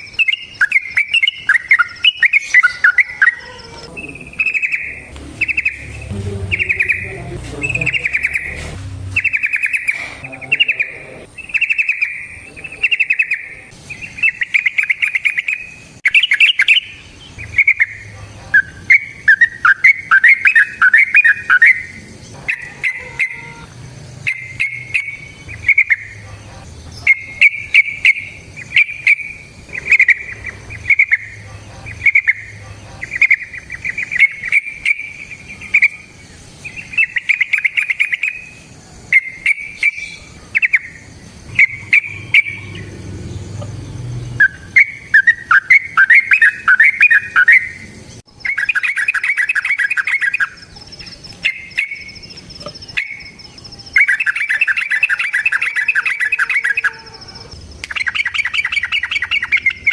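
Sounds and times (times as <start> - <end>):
bird warbling song: 0.0 - 59.9.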